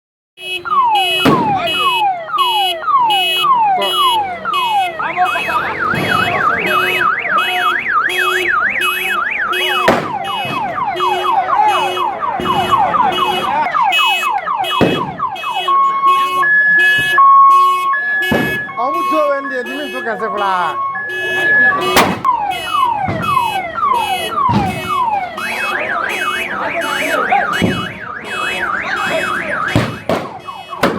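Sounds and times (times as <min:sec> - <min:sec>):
man imitating a siren: 0:00.6 - 0:30.9.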